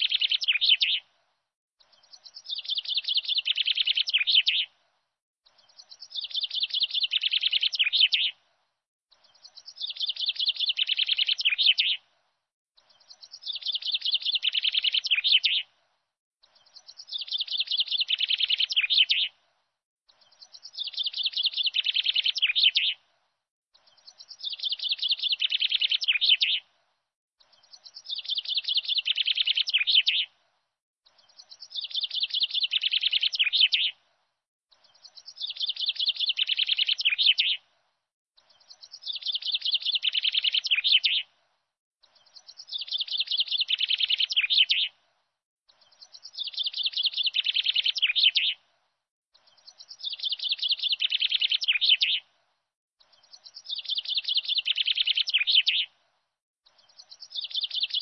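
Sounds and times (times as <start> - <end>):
bird chirping song: 0.0 - 1.2, 1.8 - 58.0.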